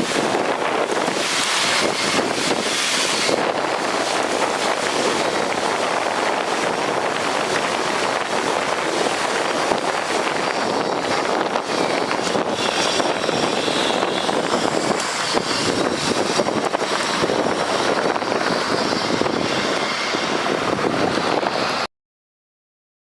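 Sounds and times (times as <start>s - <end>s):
steady rushing noise: 0.0s - 21.9s.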